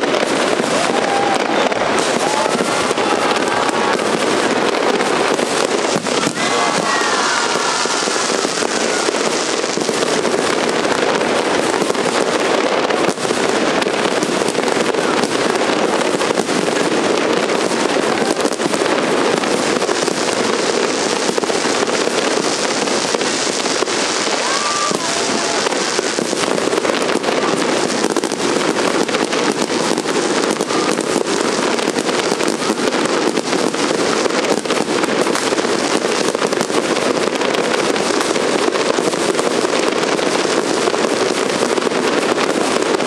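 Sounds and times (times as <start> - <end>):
fireworks crackling and banging: 0.0 - 43.0.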